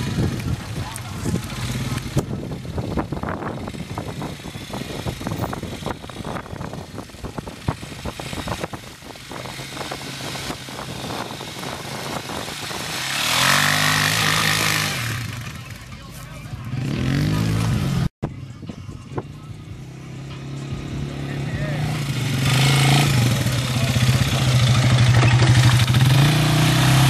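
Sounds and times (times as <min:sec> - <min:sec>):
quad bike engine revving: 0:00.0 - 0:18.1, 0:19.8 - 0:27.0.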